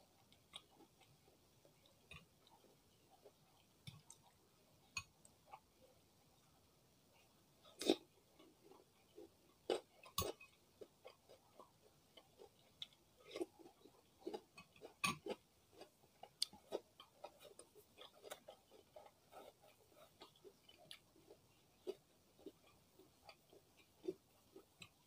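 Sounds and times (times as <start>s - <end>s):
chewing food: 0.0s - 25.0s.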